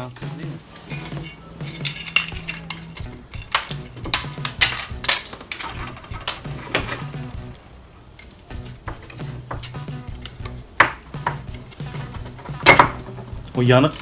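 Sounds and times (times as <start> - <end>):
metal parts clinking and scraping: 0.7 - 14.0.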